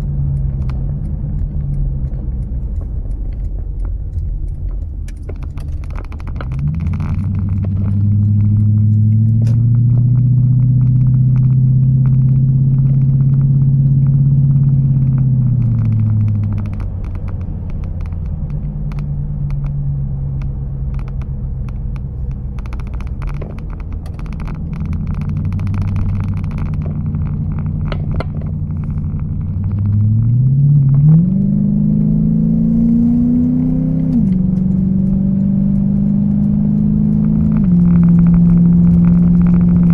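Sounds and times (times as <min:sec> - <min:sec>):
car engine drone from inside cabin: 0:00.0 - 0:39.9.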